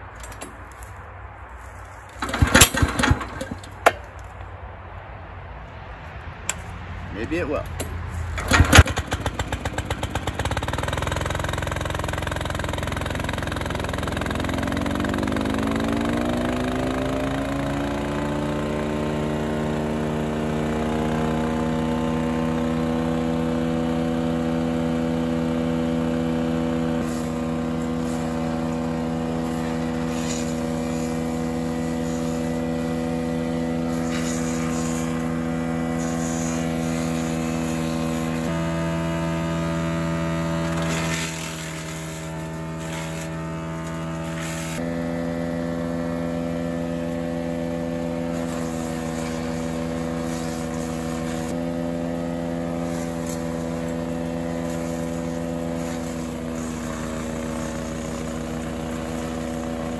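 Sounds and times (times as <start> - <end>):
engine pull-started and running: 2.1 - 3.9, 7.8 - 59.9
chipper blades whine: 8.4 - 59.9.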